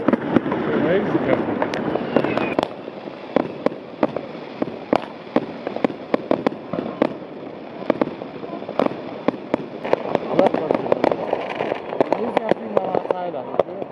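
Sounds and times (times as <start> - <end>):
fireworks bangs and cracks: 0.0 - 13.9
fireworks hissing: 0.0 - 13.9.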